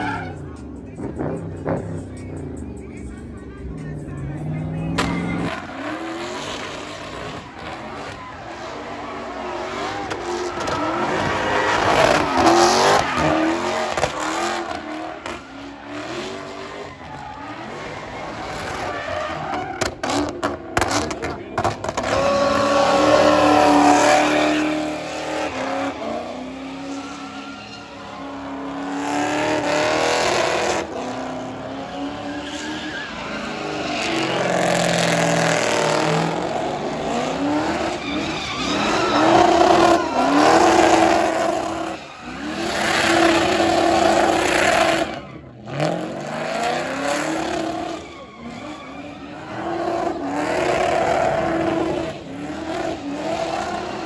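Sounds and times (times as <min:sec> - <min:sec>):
car engine revving: 0:00.0 - 0:54.0
tyres squealing: 0:04.9 - 0:45.8, 0:46.6 - 0:54.0.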